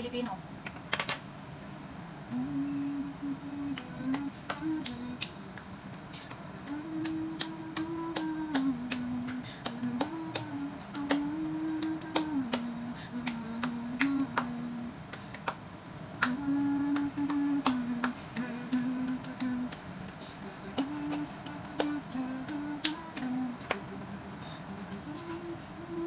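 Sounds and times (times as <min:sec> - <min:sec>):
woman humming: 0:02.3 - 0:15.0, 0:16.2 - 0:26.0.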